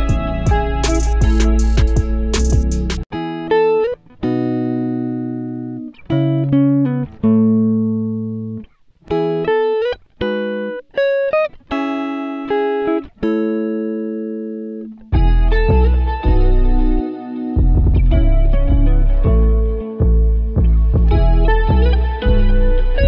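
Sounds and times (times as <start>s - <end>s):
plucked string music: 0.0s - 23.0s.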